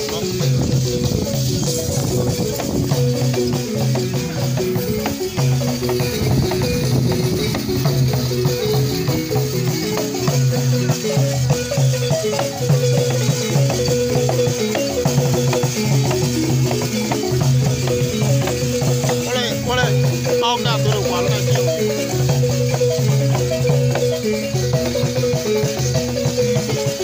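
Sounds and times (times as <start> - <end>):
shaking rattles: 0.0 - 27.0
wooden xylophone playing: 0.0 - 27.0.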